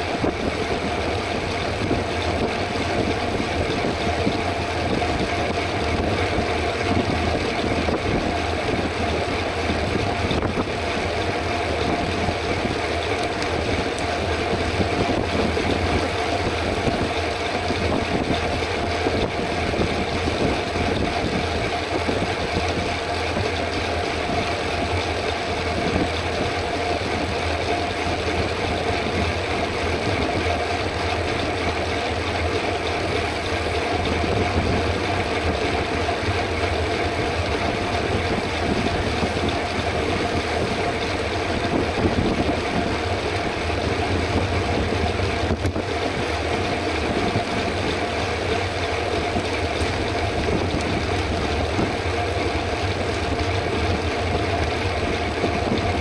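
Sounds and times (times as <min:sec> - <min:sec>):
bike tyre hum on road: 0:00.0 - 0:56.0
wind on microphone: 0:00.0 - 0:56.0.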